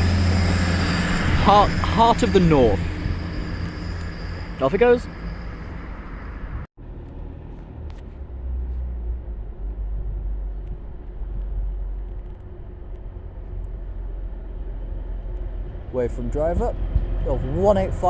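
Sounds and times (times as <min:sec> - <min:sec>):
diesel train engine rumble: 0:00.0 - 0:18.0.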